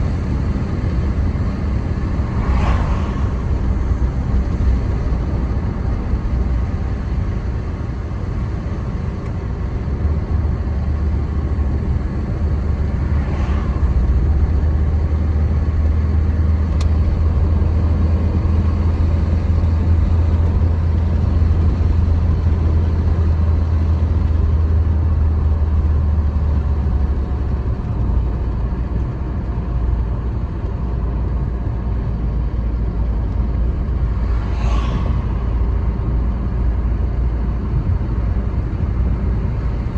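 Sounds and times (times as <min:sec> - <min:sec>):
car engine: 0:00.0 - 0:39.9
tyres rumbling on road: 0:00.0 - 0:39.9.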